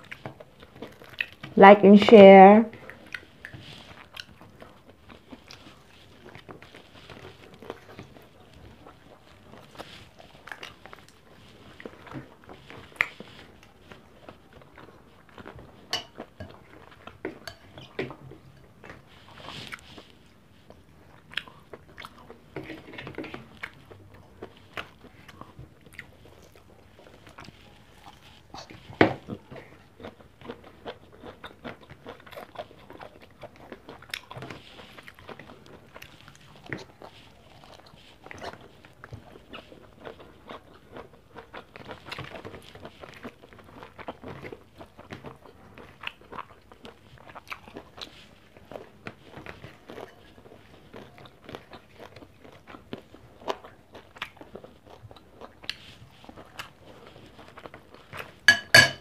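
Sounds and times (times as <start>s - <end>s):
chewing and crunching: 0.0s - 1.6s, 2.7s - 58.9s.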